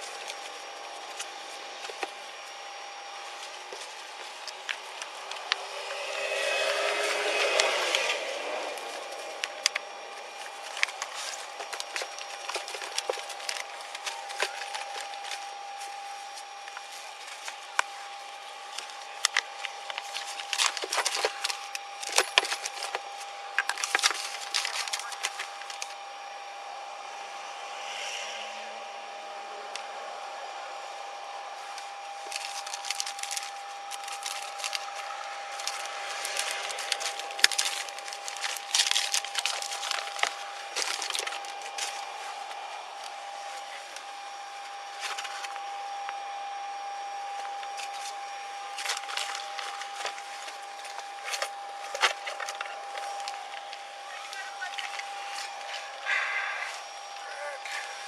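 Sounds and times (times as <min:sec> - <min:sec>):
objects crackling and rustling: 0:00.0 - 0:28.4, 0:29.0 - 0:58.0
faint high hum: 0:00.0 - 0:58.0.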